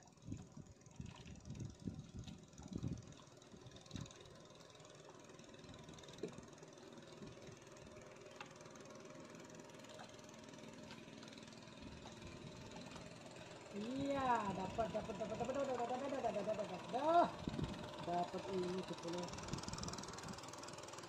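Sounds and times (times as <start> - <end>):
faint engine hum: 0.0 - 21.0.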